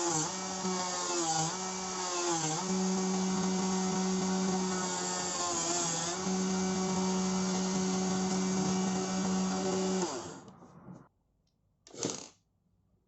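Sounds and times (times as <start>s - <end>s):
rotary grinder motor whining: 0.0s - 10.6s.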